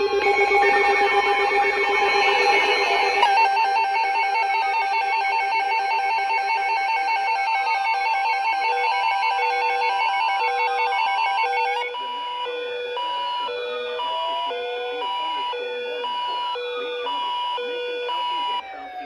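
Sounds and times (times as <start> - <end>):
weather radio alert alarms: 0.0 - 19.0.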